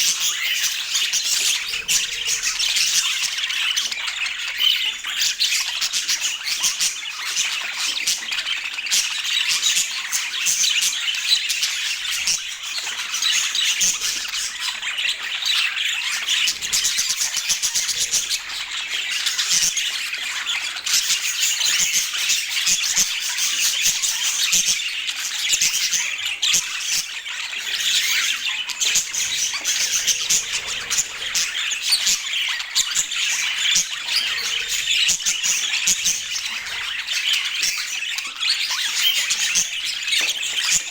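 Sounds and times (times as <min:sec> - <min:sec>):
budgerigars chattering and squawking: 0:00.0 - 0:40.9.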